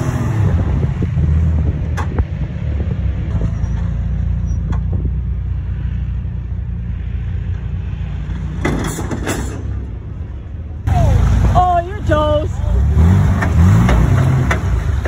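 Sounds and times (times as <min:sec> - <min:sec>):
truck engine running low: 0:00.0 - 0:15.0.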